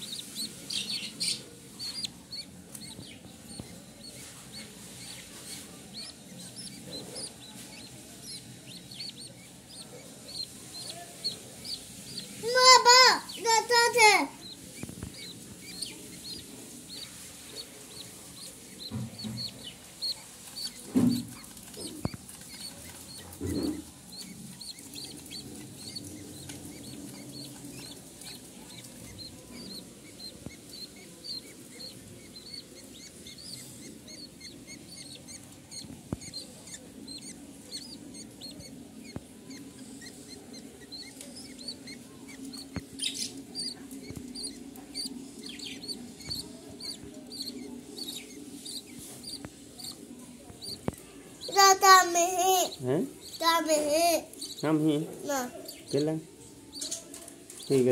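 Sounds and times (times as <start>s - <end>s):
budgerigar chicks peeping: 0.0s - 57.9s.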